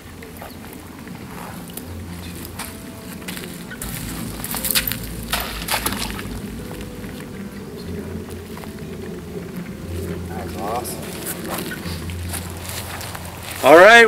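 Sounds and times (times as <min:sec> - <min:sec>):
low outdoor background: 0:00.0 - 0:14.0.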